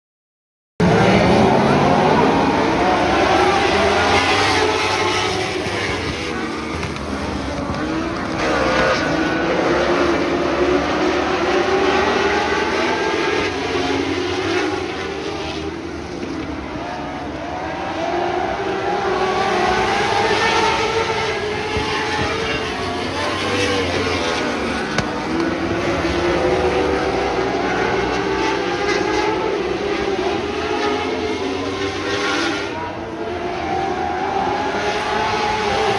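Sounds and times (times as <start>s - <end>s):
race car engines revving and passing: 0.8s - 35.9s.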